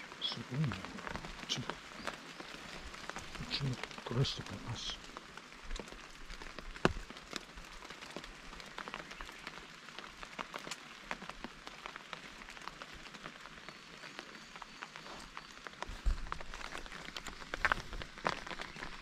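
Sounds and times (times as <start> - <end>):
raindrops tapping: 0.0 - 19.0.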